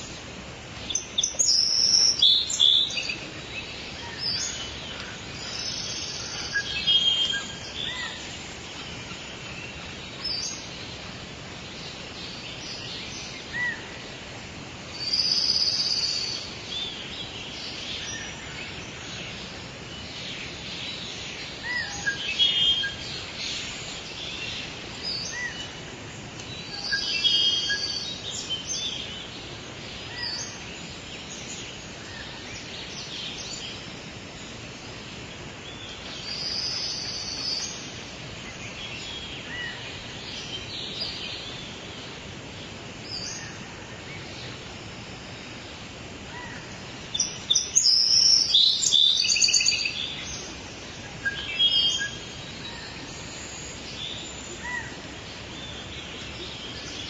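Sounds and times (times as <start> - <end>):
steady background hiss: 0.0 - 57.0
birds chirping and calling: 0.8 - 14.2, 15.0 - 42.3, 43.0 - 57.0.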